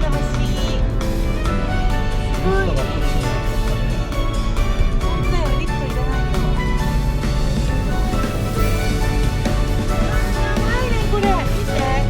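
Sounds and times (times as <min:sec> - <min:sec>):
music with strong bass beat: 0:00.0 - 0:12.0.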